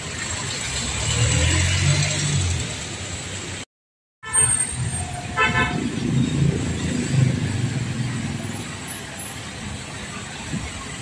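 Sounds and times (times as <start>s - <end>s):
vehicle engines rumbling: 0.0s - 3.7s, 4.3s - 11.0s.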